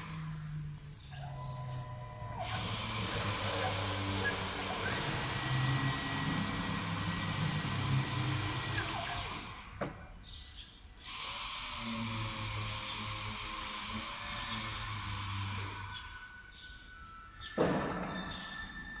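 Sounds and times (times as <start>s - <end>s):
router spindle whining: 0.0s - 9.8s, 11.1s - 17.4s.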